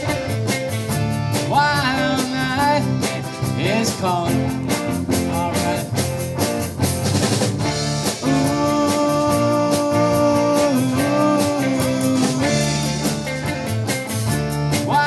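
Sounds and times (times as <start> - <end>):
drum kit beat: 0.0 - 15.0
guitar and bass: 0.0 - 15.0.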